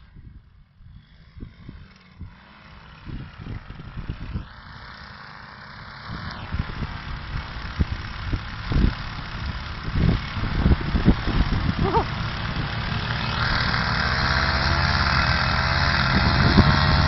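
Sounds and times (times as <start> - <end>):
wind buffeting microphone: 0.0 - 4.6, 6.0 - 17.0
engine-like hum and hiss: 0.0 - 17.0.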